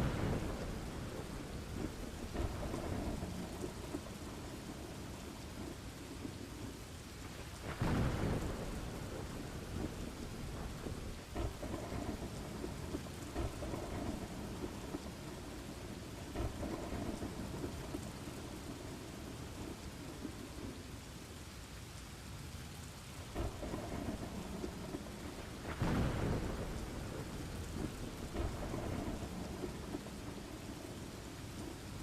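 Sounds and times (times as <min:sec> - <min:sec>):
rolling thunder: 0:00.0 - 0:20.8, 0:23.3 - 0:32.0
heavy rain: 0:00.0 - 0:32.0.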